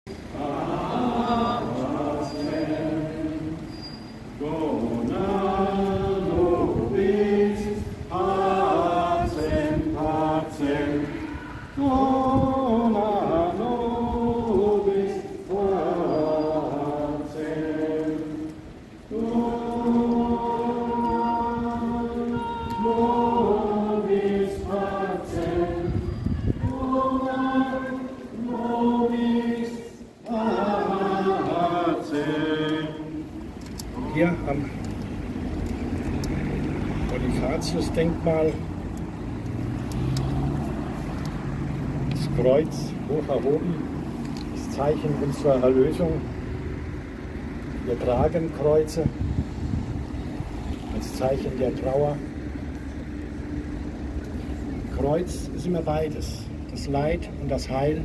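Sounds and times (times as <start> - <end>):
crowd singing a hymn: 0.1 - 58.0.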